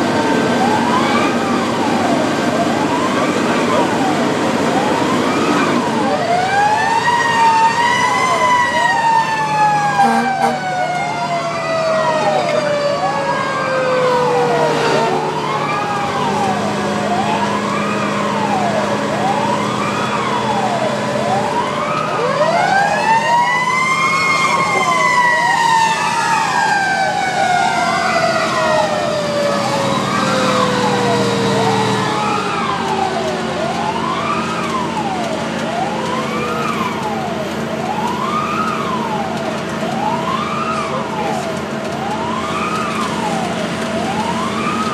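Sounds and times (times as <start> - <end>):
rising and falling siren: 0.0 - 44.9
sweeping siren: 0.0 - 44.9.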